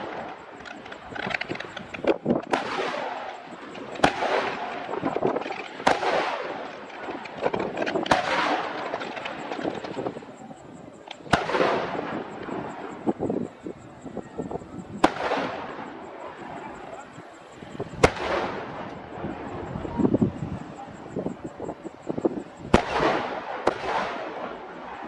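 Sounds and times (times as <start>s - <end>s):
background crackling: 0.0s - 25.0s
crackle of fireworks stars: 0.0s - 25.0s
fireworks bangs: 0.0s - 25.0s.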